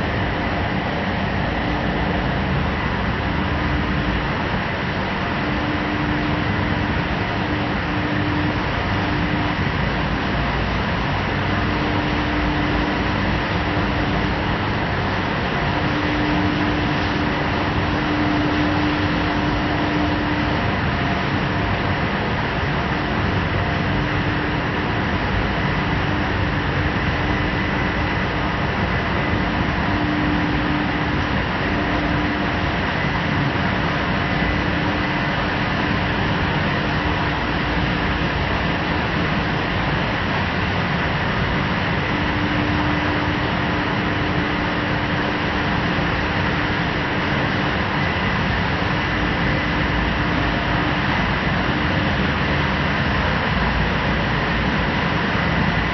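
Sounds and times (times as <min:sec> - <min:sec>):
machines running with hum: 0:00.0 - 0:55.9.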